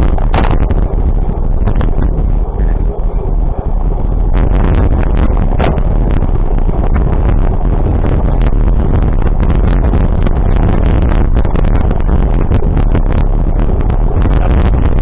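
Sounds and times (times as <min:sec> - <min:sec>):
vehicle rumbling along a road: 0:00.0 - 0:15.0.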